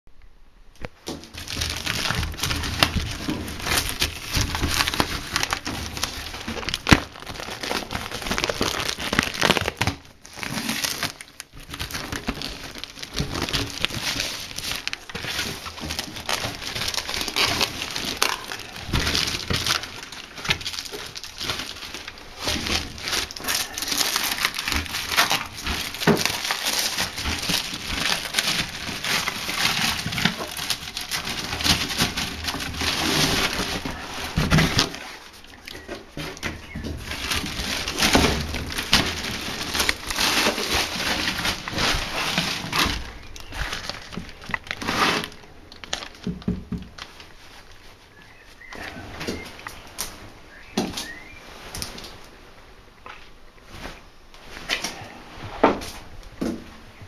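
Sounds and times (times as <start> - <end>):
plastic wrap crinkling: 0.8 - 52.4.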